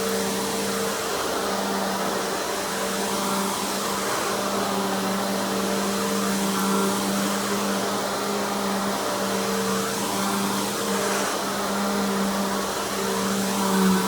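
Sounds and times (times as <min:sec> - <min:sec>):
upright vacuum running: 0:00.0 - 0:14.0.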